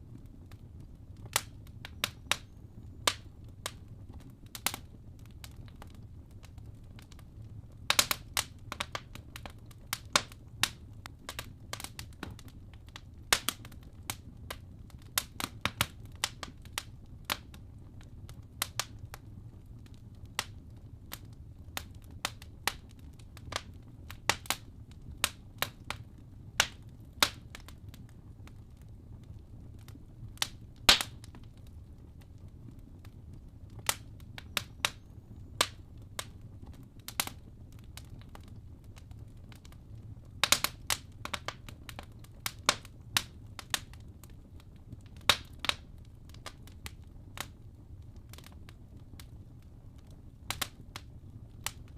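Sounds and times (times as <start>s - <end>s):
logs popping and crackling: 0.0s - 51.9s
low rumble of flames: 0.0s - 51.9s.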